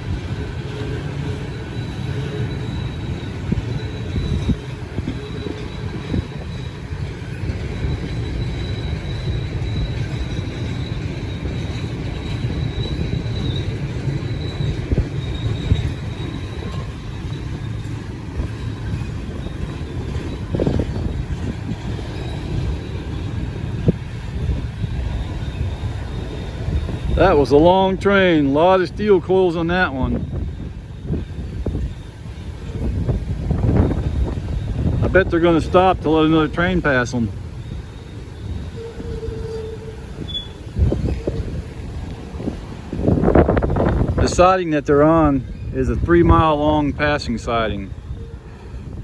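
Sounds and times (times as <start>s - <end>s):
high wheel squeal: 0.0s - 49.0s
train cars clunking: 0.0s - 49.0s
train wheels rumbling on rail: 0.0s - 49.0s.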